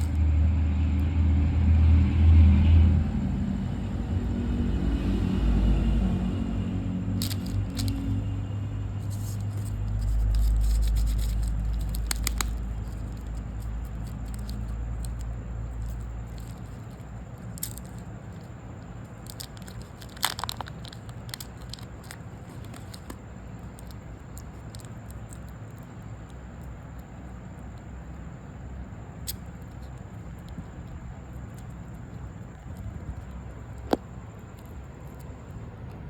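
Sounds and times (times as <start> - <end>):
crisp crackles and clicks: 0.0 - 0.2, 7.1 - 36.0.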